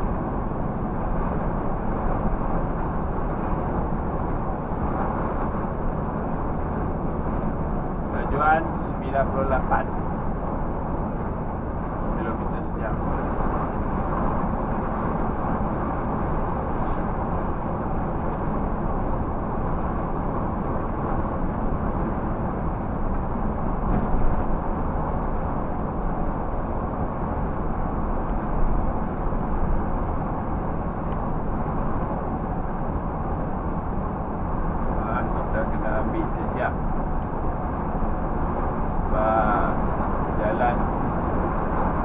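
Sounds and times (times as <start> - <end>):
bus engine rumble: 0.0 - 42.0
tyre and road noise: 0.0 - 42.0.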